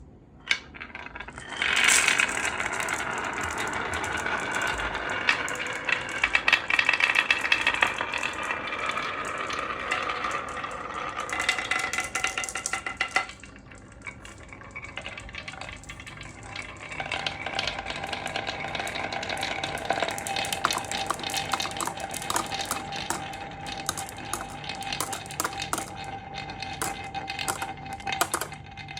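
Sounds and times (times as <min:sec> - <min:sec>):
marbles rolling down a track: 0:00.5 - 0:28.9.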